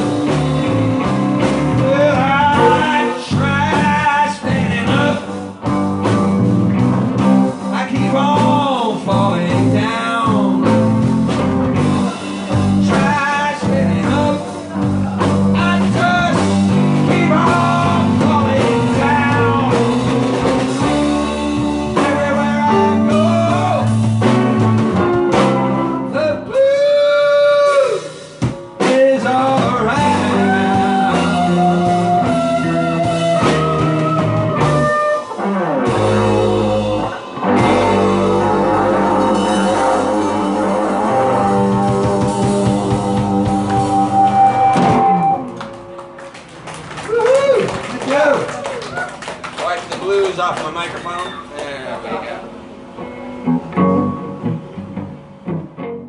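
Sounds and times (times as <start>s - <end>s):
blues band playing: 0.0s - 56.0s.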